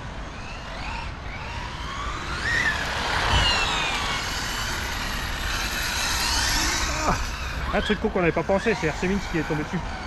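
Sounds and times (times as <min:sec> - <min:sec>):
rc car motor whine: 0:00.0 - 0:10.0.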